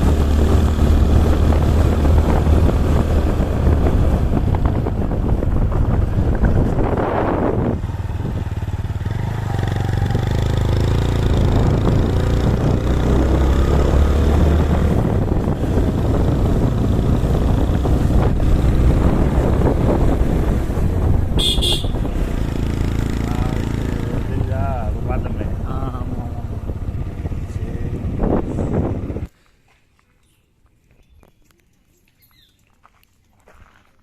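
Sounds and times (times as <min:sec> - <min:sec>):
vehicle engine running: 0:00.0 - 0:29.3.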